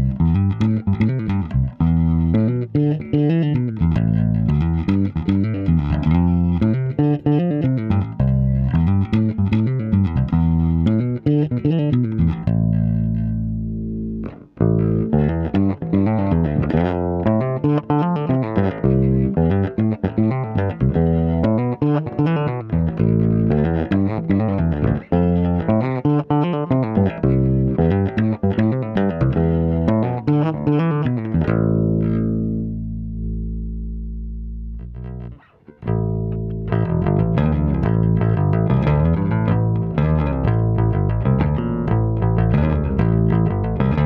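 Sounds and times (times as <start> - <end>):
electric bass played with fingers: 0.0 - 44.0.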